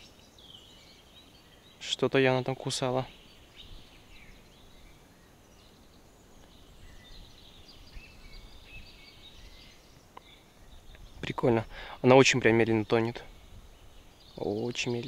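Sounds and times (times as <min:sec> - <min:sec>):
songbird chirps: 0:00.0 - 0:15.0.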